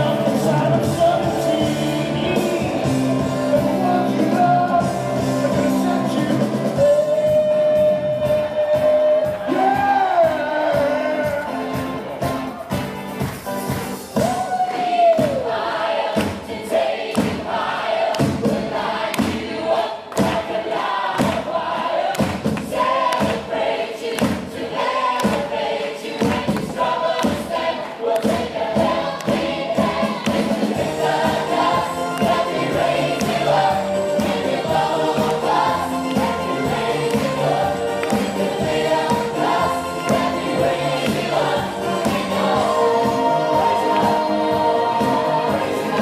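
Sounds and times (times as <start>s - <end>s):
chorus singing with live band: 0.0s - 12.8s, 14.0s - 46.0s
steady drum beat: 0.0s - 14.6s, 15.2s - 46.0s.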